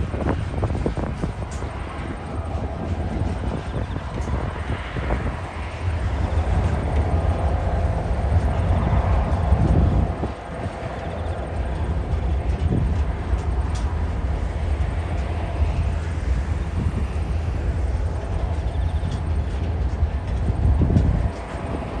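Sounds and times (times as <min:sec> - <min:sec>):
freight train rumbling on bridge: 0:00.0 - 0:22.0
train wheels clicking and knocking: 0:00.0 - 0:22.0.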